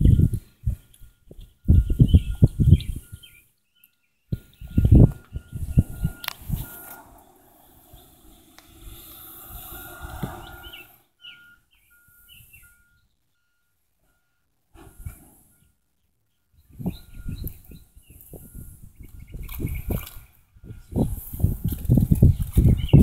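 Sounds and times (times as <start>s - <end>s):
birds chirping: 0.0s - 21.2s, 22.2s - 23.0s.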